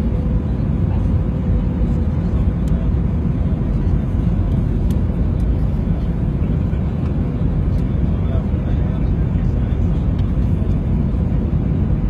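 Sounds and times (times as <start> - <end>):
engines and rushing air rumble: 0.0 - 12.0.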